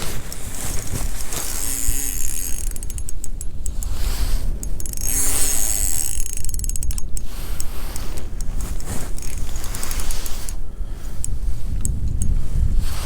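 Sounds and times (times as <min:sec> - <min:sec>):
fishing reel clicking: 0:00.0 - 0:12.4
wind rumble: 0:00.0 - 0:13.0.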